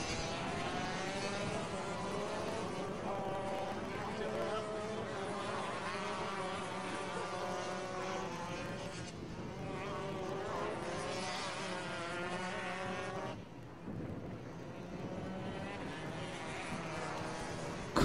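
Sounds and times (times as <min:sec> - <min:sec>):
kart engines buzzing at high revs: 0:00.0 - 0:18.0.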